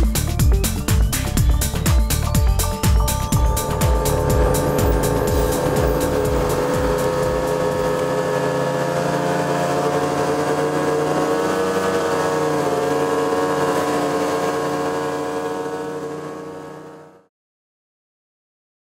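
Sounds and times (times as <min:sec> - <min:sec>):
snowmobile engines running: 0:00.0 - 0:17.3.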